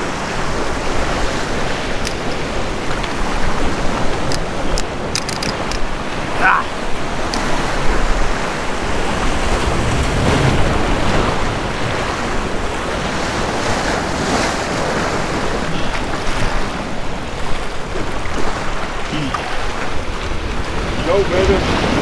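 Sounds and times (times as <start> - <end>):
surf washing over rocks: 0.0 - 22.0
wind buffeting microphone: 0.0 - 22.0.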